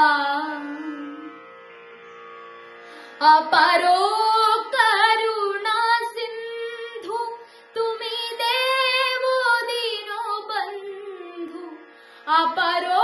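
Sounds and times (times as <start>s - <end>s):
boy singing devotional song: 0.0s - 1.3s, 3.2s - 13.0s.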